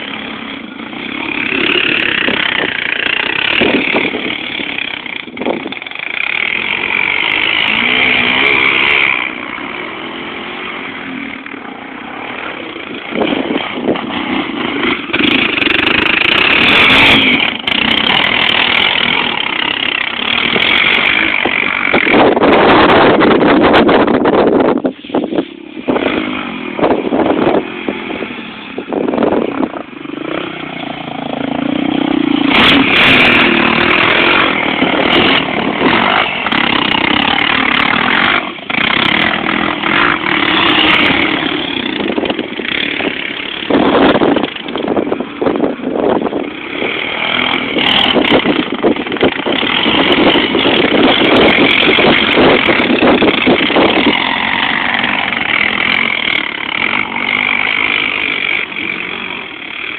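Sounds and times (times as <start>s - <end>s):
quad bike engines revving: 0.0s - 59.9s.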